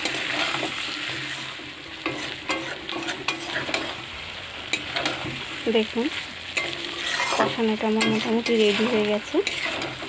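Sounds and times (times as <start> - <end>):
metal spatula scraping pan: 0.0 - 5.6, 6.4 - 10.0
food sizzling in oil: 0.0 - 10.0.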